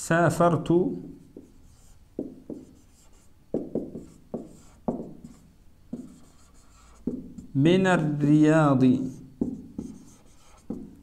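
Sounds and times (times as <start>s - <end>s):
marker writing on whiteboard: 1.0s - 8.2s, 8.8s - 11.0s.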